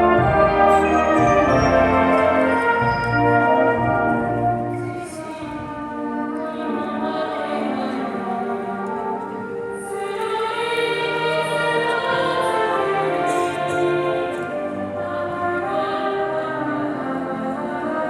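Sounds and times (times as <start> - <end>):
brass band accompanying: 0.0 - 18.0
choir singing: 0.0 - 18.0.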